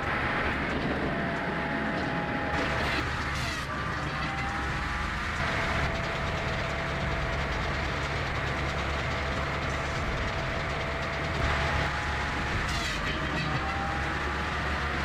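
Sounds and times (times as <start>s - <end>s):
engine drone with whine: 0.0s - 15.0s.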